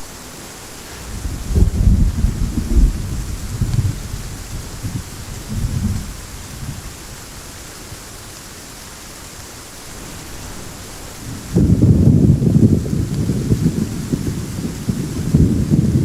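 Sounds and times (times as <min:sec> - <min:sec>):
heavy rain falling: 0:00.0 - 0:16.0
thunder rumbling: 0:00.0 - 0:16.0.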